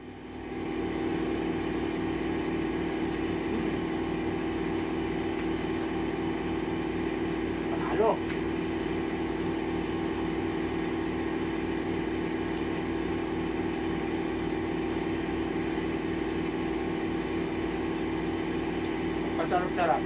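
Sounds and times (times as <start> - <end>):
low pulsing: 0.0 - 19.7
steady machine hum: 0.0 - 20.0.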